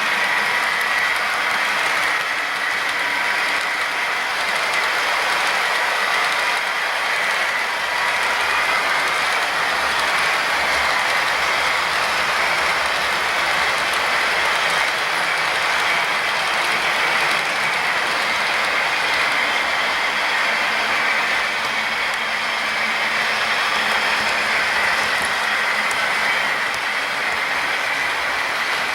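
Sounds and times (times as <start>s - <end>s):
model train motor whirring: 0.0s - 28.9s
wheels rolling on rails: 0.0s - 28.9s.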